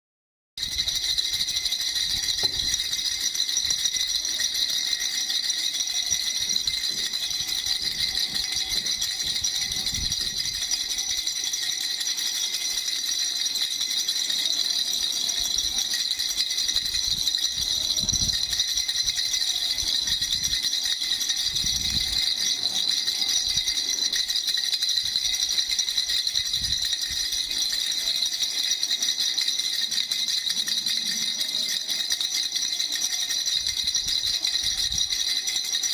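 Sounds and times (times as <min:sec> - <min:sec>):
baby rattle shaken: 0:00.6 - 0:35.9.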